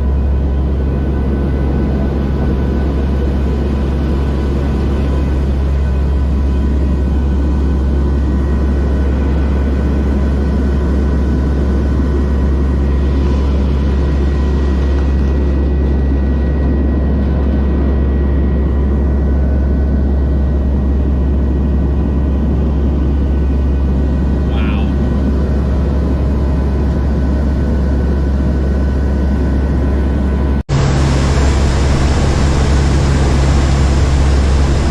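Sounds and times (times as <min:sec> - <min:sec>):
aircraft propeller engines droning: 0:00.0 - 0:34.9.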